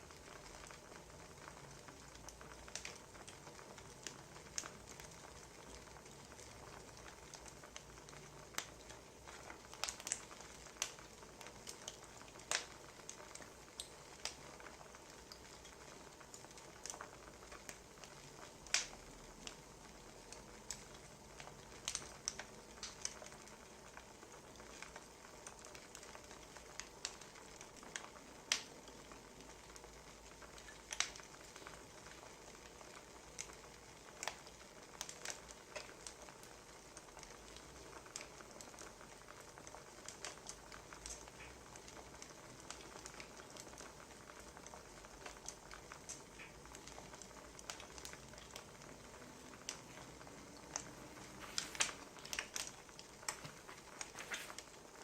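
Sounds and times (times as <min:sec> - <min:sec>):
soft steady hiss: 0:00.0 - 0:55.0
wood fire crackling: 0:00.0 - 0:55.0.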